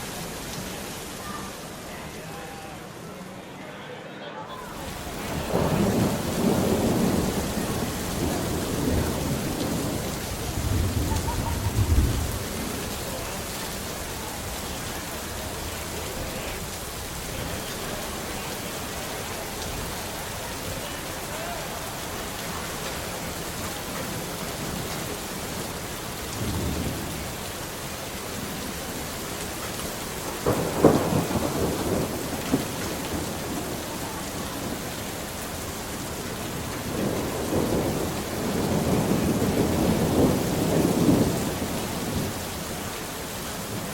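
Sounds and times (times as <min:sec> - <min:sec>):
steady rain: 0:00.0 - 0:43.9
rolling thunder: 0:04.7 - 0:20.7, 0:21.8 - 0:42.7.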